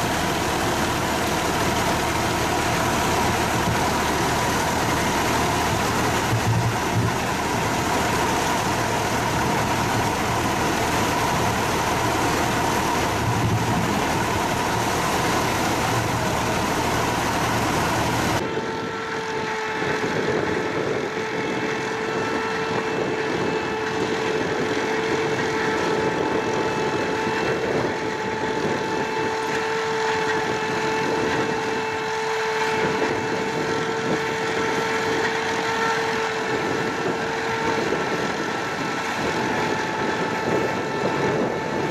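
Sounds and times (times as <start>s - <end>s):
tractor engine running: 0.0s - 18.4s, 19.4s - 41.9s
harvester machine working: 0.0s - 41.9s
steady machine whine: 0.0s - 41.9s.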